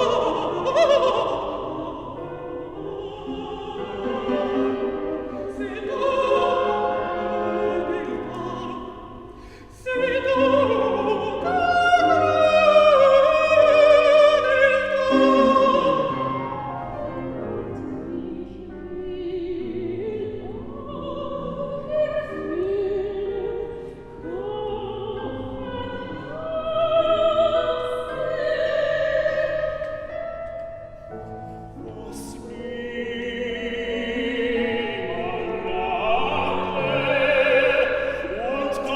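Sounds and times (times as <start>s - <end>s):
operatic singing with vibrato: 0.0s - 30.7s, 31.5s - 38.9s.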